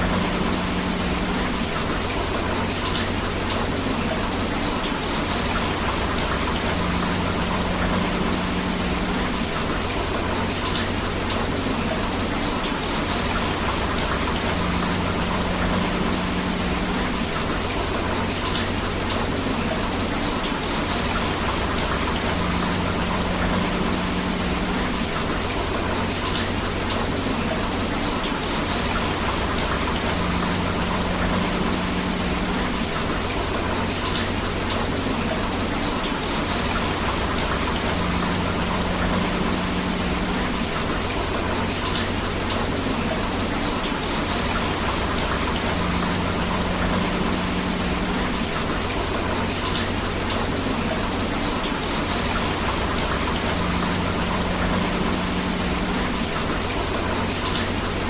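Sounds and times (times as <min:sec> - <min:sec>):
rushing river water: 0:00.0 - 0:58.0
steady rain: 0:00.0 - 0:58.0.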